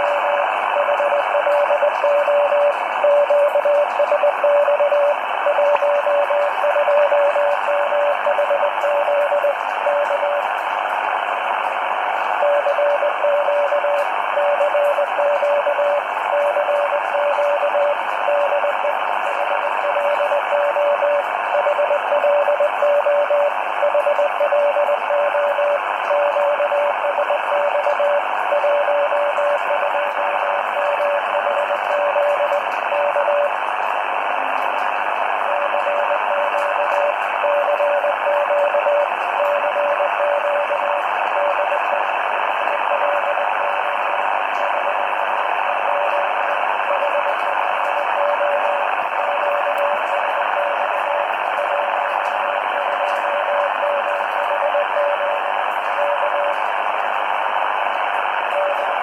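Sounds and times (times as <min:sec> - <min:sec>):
morse code tone: 0:00.0 - 0:10.4, 0:12.4 - 0:33.6, 0:35.4 - 0:56.6, 0:58.4 - 0:59.0
radio static hiss: 0:00.0 - 0:59.0.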